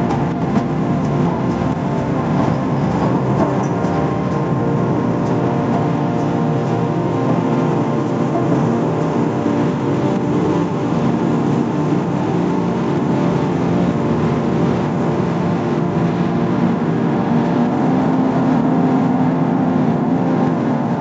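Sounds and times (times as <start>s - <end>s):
heavy vehicle engines running: 0.0s - 21.0s.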